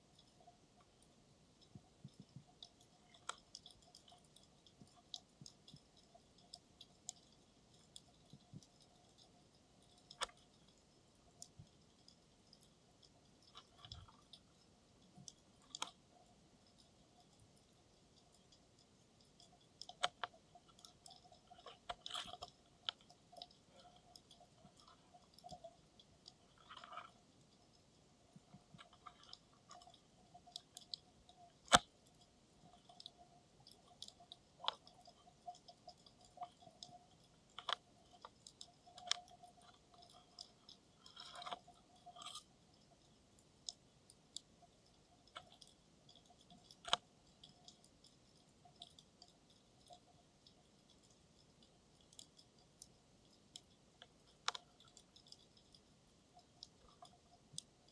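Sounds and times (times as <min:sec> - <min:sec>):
underwater clicks and crackles: 0:00.0 - 0:57.9.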